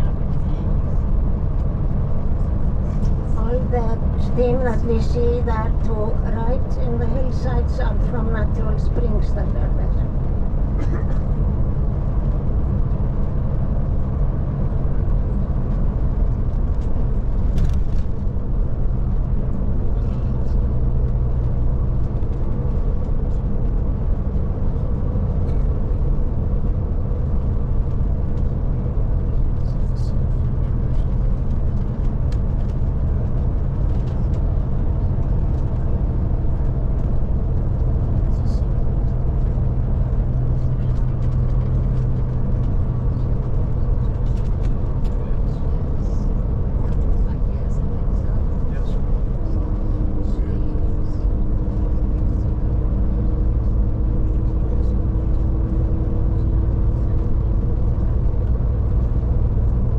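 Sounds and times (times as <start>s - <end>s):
coach engine drone: 0.0s - 59.9s
road noise: 0.0s - 59.9s.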